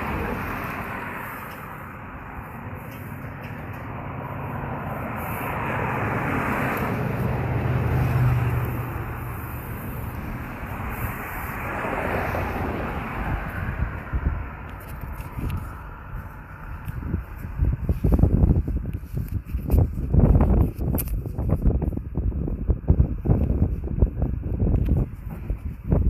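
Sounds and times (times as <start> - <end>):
engine passing by: 0.0 - 21.8.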